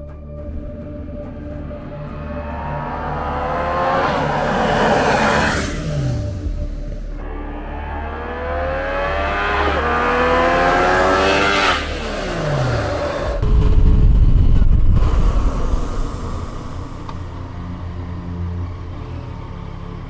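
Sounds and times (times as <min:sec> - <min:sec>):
motorcycle engine accelerating: 0:01.7 - 0:20.0.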